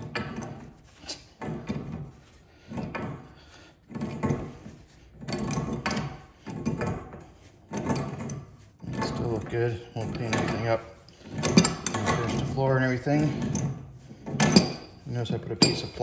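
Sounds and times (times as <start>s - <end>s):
wrench scraping and clunking on pipe: 0.0s - 16.0s.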